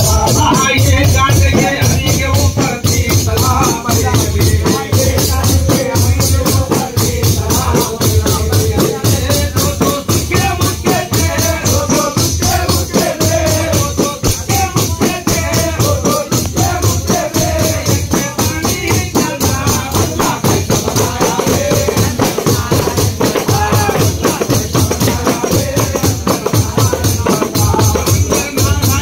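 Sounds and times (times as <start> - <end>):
jingled frame drums beaten: 0.0 - 29.0
man singing into a microphone: 0.0 - 29.0.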